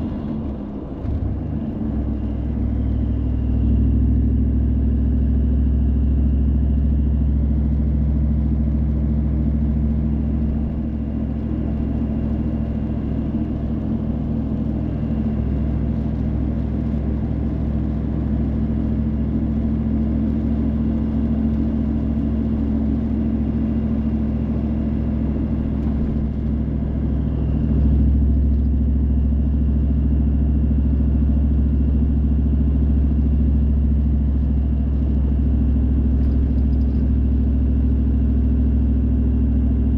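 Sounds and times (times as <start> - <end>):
car engine and tyre hum: 0.0 - 39.9.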